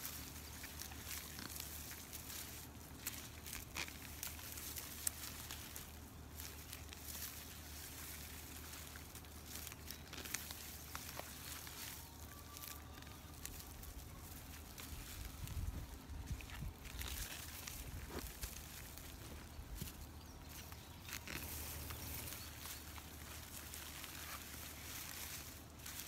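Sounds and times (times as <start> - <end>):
roots crackling and snapping: 0.0 - 26.0
rustling of leafy plant tops: 0.0 - 26.0.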